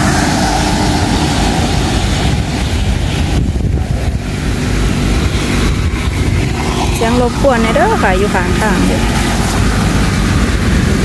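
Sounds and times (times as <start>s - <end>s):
car passing on wet road: 0.0s - 11.0s
wind buffeting microphone: 0.0s - 11.0s.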